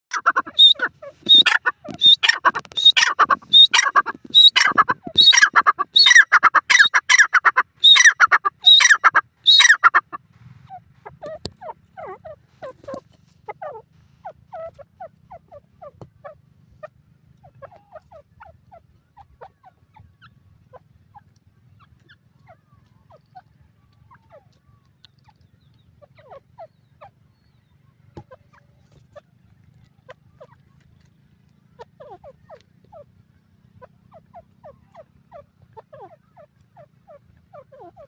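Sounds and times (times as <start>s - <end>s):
bird harsh repeated calls: 0.1s - 38.0s
soft low bird clucks: 0.1s - 38.0s.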